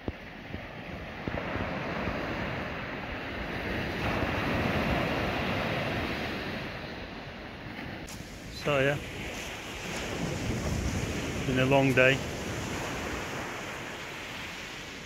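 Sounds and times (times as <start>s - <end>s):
sea surf washing on shore: 0.0s - 15.0s
wind buffeting microphone: 0.0s - 15.0s.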